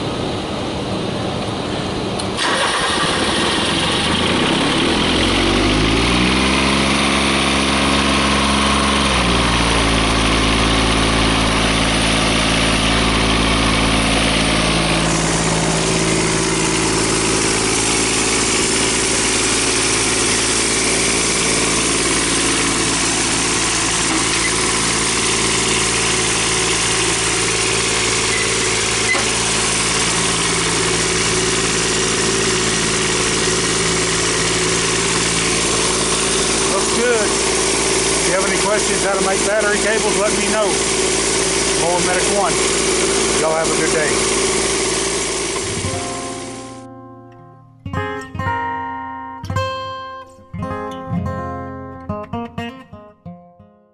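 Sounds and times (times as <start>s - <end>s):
diesel engine starting and running: 0.0s - 46.9s.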